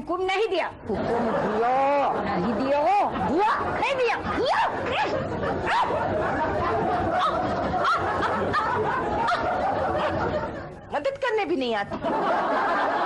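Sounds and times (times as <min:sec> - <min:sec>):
audience laugh track: 0:00.8 - 0:11.0, 0:11.8 - 0:13.0.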